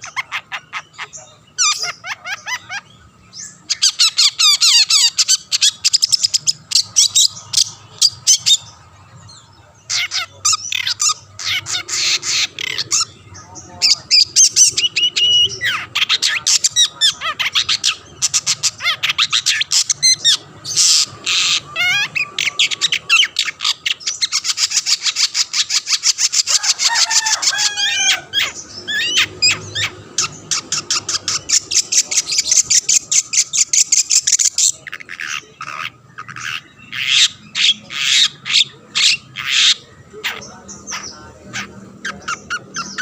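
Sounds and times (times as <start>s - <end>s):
bird harsh rattling chatter: 0.0s - 43.0s.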